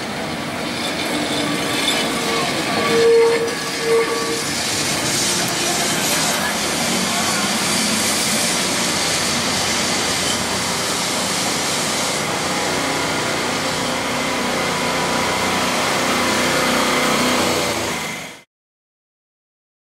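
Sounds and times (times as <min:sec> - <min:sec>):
cars on cobbled street: 0:00.0 - 0:18.4
electric tram moving: 0:00.0 - 0:18.4.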